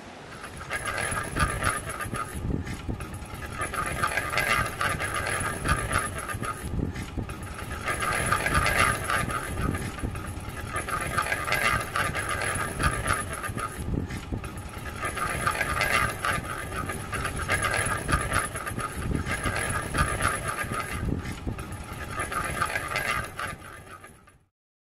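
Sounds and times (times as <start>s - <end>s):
train running on rails: 0.0s - 24.5s.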